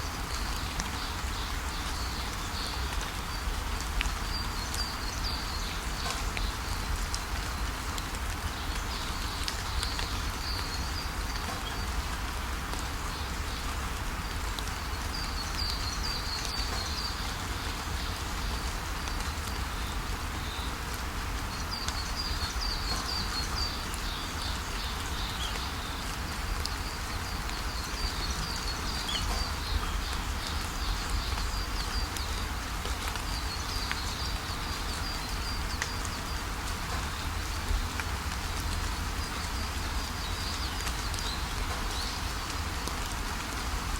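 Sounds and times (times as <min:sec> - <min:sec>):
songbirds chirping: 0:00.0 - 0:43.9
steady rain: 0:00.0 - 0:43.9.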